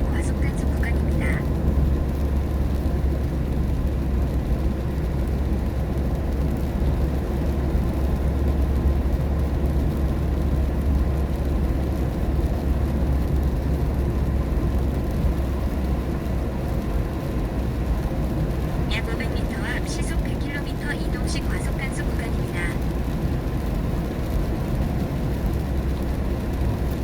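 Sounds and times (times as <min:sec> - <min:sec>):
car engine and wet tyre noise: 0:00.0 - 0:18.9, 0:21.4 - 0:27.0.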